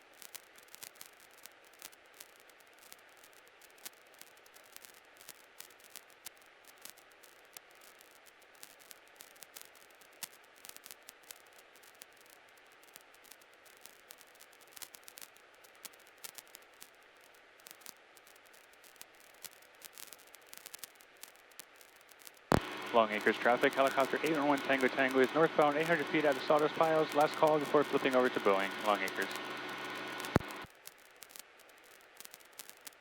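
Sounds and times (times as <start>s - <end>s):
faint radio static hiss: 0.0s - 33.0s
small crackling clicks: 0.0s - 33.0s.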